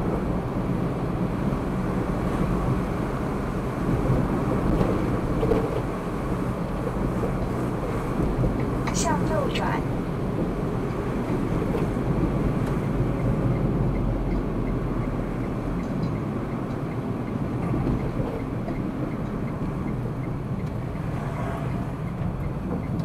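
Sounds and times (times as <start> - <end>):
car engine: 0.0 - 23.0
tyre road noise: 0.0 - 23.0.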